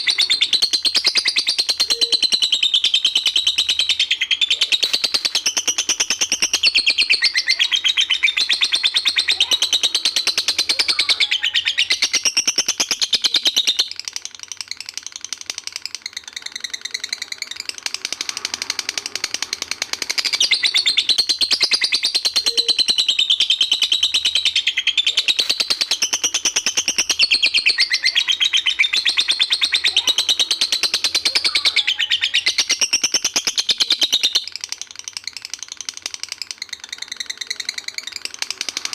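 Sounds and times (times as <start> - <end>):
lovebird chattering trill: 0.0 - 38.9.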